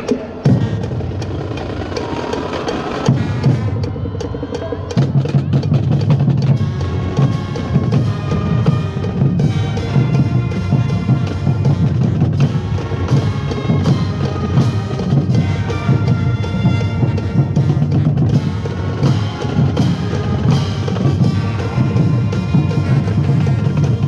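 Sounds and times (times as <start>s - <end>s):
marching band brass chords: 0.0s - 24.0s
steady drumming: 0.0s - 24.0s.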